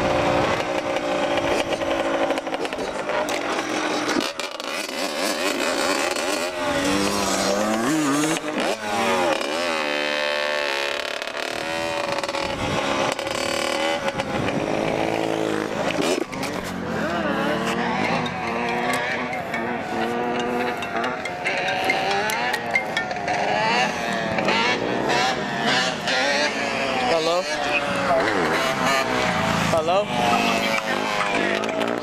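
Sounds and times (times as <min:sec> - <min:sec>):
off-road vehicle engine revving: 0:00.0 - 0:32.0
wind and road noise: 0:00.0 - 0:32.0.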